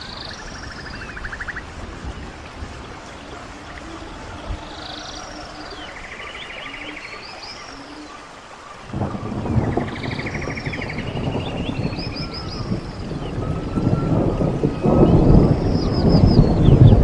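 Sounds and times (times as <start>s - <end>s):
songbirds singing: 0.0s - 17.0s
stream water running: 0.0s - 17.0s.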